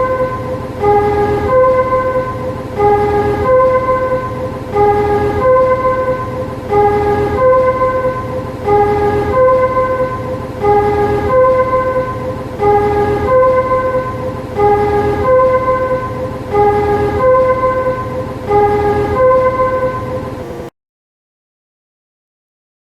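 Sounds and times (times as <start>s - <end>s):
steady low hum: 0.0s - 20.7s
two-note electronic warning chime: 0.0s - 20.7s.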